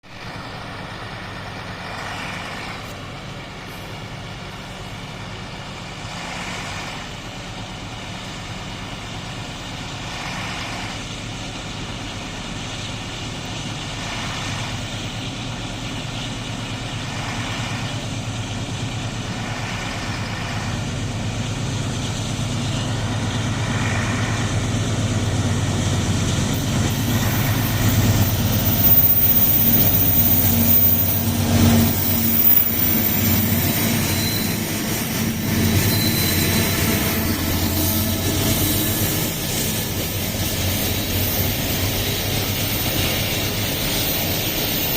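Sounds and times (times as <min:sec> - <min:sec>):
locomotive engine drone: 0:00.0 - 0:44.9.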